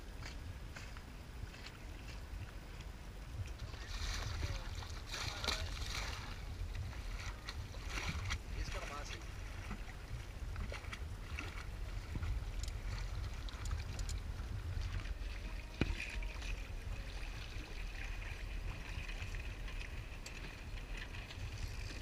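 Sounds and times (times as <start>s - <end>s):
wind buffeting microphone: 0.0s - 22.0s
water splashing against boat: 0.2s - 22.0s.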